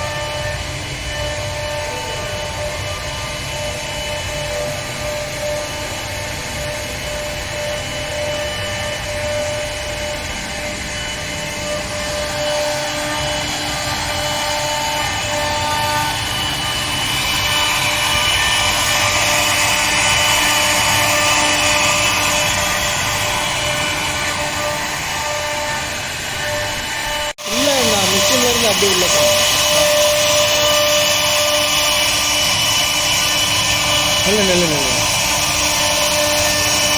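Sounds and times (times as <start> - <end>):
router spindle cutting wood: 0.0 - 36.9.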